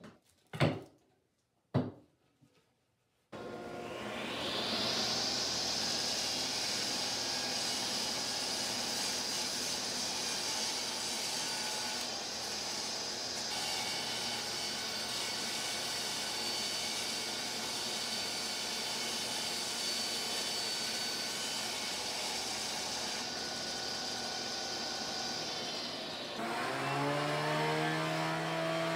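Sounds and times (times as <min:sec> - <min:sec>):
woodworking machine hiss and whine: 0:03.4 - 0:28.9.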